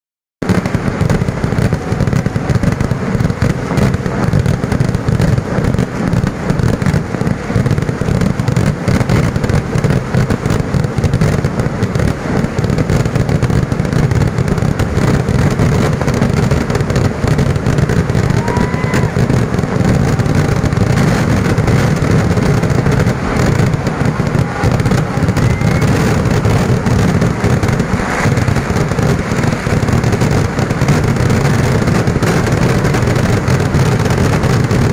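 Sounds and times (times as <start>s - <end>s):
firework whistles: 0.4s - 34.9s
fireworks booming and crackling: 0.4s - 34.9s.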